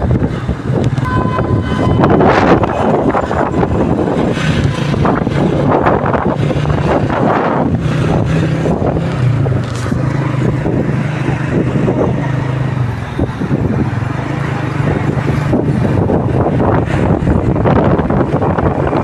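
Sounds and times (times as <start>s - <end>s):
engine humming: 0.0s - 19.0s
loud rushing noise: 0.0s - 19.0s.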